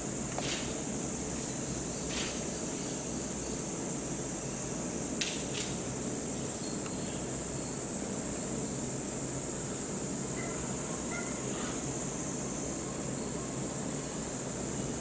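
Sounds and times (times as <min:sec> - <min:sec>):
ventilation fans humming: 0:00.0 - 0:15.0.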